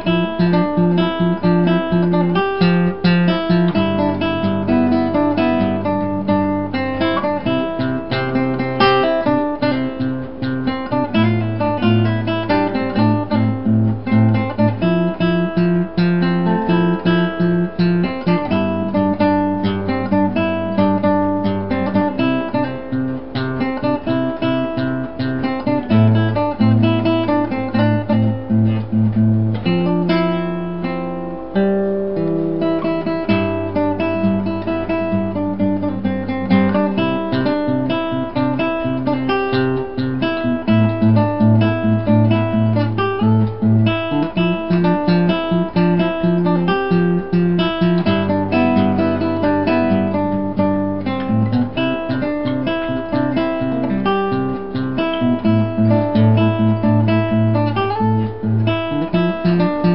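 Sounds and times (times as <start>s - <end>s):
acoustic guitar music: 0.0s - 59.9s.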